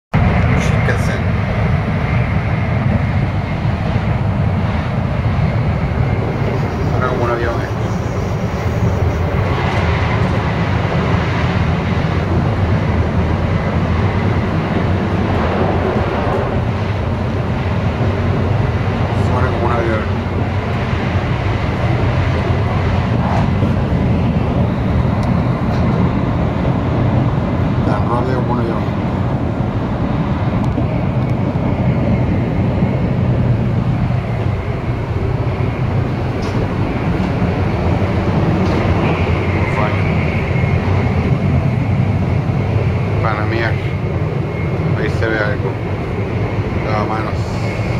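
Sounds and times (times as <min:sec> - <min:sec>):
train rumbling and rushing: 0:00.1 - 0:47.9.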